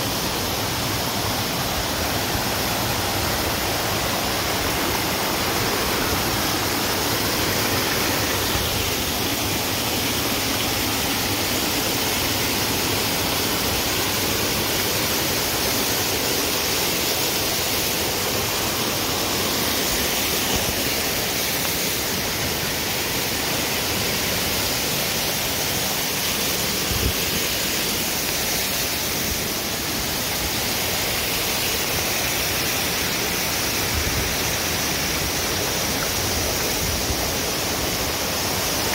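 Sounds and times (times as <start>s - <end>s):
small waterfall cascading: 0.0s - 38.9s.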